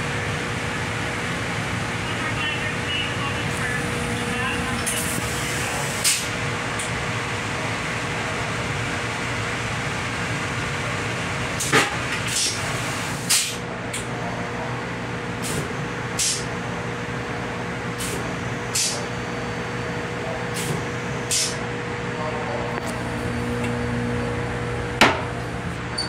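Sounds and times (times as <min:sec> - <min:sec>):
train coach running hum: 0:00.0 - 0:26.0.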